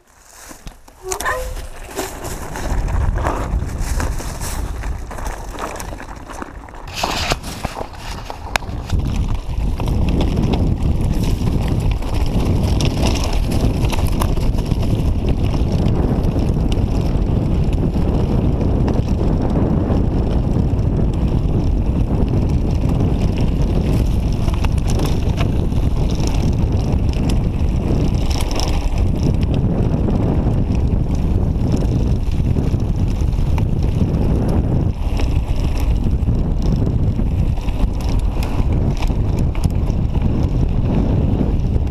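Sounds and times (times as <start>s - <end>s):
tyres rattling over gravel: 0.0s - 18.0s, 20.6s - 41.8s
wind buffeting microphone: 0.7s - 41.9s.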